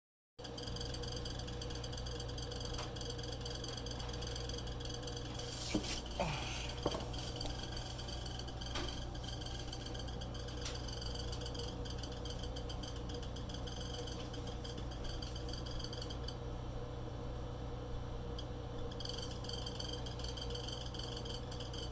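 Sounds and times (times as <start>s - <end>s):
refrigerator humming: 0.4s - 21.9s.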